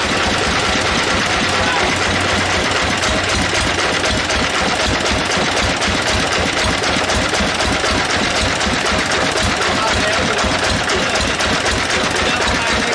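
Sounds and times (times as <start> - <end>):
bandsaw machine running: 0.0 - 12.9.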